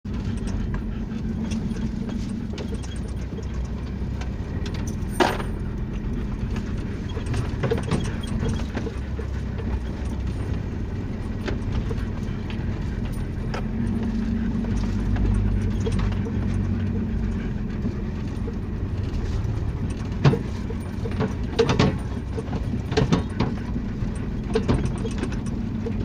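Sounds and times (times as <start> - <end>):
body and suspension rattles: 0.0 - 26.0
vehicle engine running: 0.0 - 26.0.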